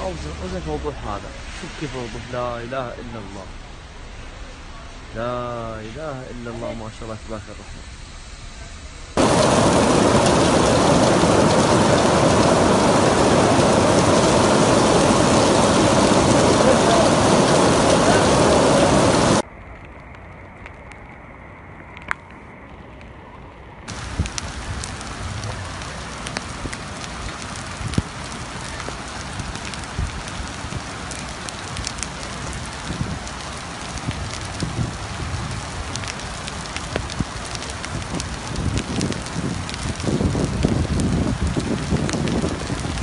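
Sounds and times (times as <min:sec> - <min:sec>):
heavy rain on stone floor: 0:00.0 - 0:43.0.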